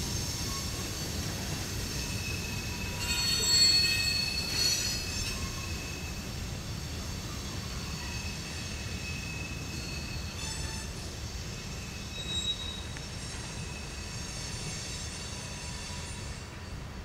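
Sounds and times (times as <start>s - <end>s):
train wheels squealing: 0.0s - 17.0s
wheels rolling on rail: 0.0s - 17.0s.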